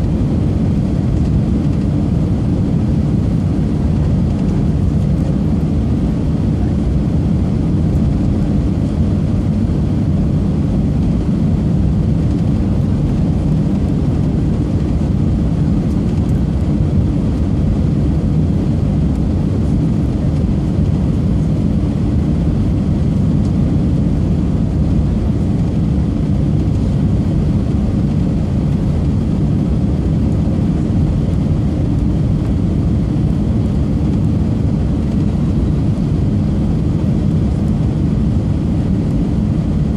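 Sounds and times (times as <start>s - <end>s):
airliner engines rumbling: 0.0s - 39.9s.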